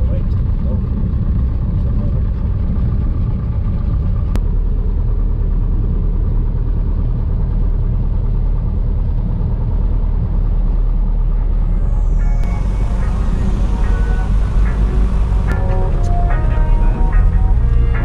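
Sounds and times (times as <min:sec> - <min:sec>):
aircraft engine drone in cabin: 0:00.0 - 0:18.0.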